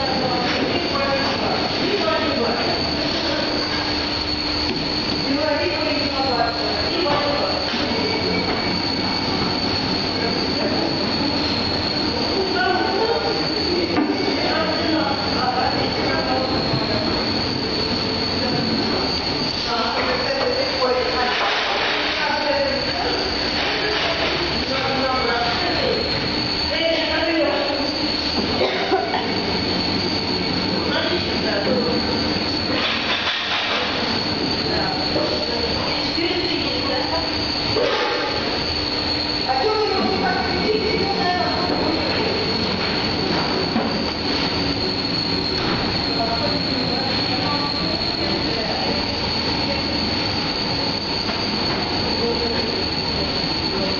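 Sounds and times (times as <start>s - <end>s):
dough sheeter whirring and whining: 0.0s - 53.9s.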